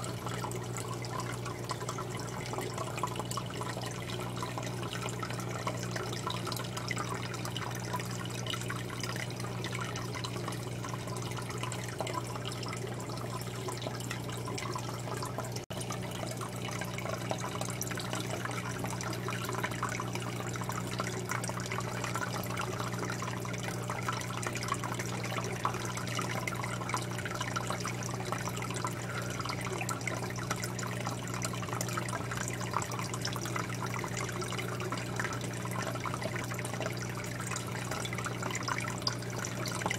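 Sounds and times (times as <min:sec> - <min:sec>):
pump motor hum: 0:00.0 - 0:39.9
water trickling and splashing: 0:00.0 - 0:39.9.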